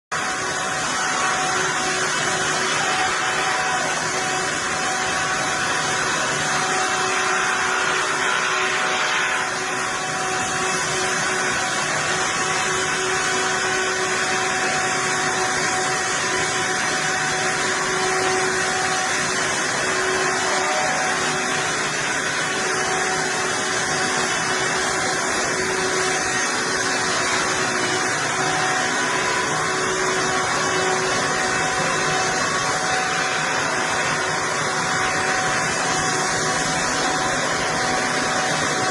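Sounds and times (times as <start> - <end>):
heavy machinery running: 0.1 - 38.9.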